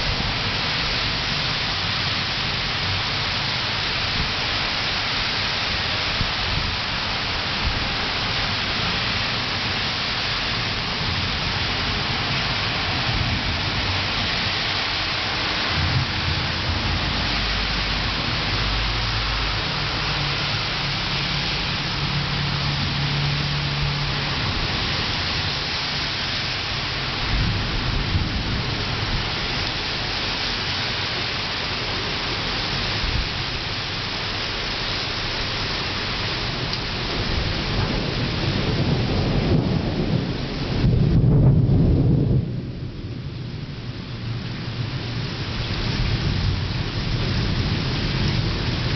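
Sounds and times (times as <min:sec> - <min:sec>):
heavy rain hissing: 0:00.0 - 0:48.9
thunder rumbling: 0:00.0 - 0:48.9.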